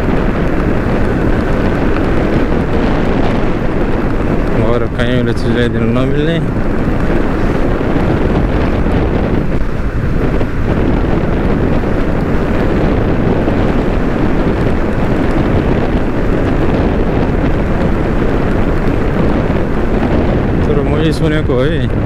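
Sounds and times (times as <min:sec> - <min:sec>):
motorcycle engine: 0:00.0 - 0:22.0
road noise: 0:00.0 - 0:22.0
wind rushing over microphone: 0:00.0 - 0:22.0.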